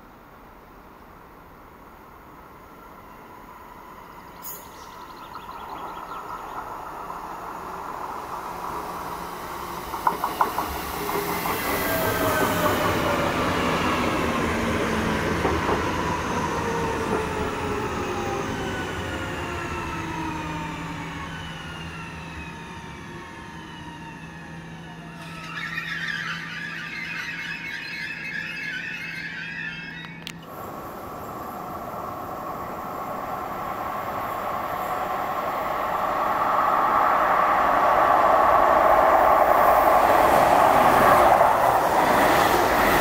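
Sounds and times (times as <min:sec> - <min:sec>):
train running: 0:01.7 - 0:43.0.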